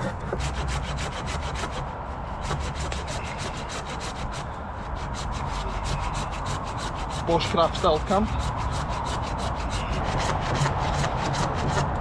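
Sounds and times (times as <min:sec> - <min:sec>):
saw cutting wood: 0:00.0 - 0:12.0.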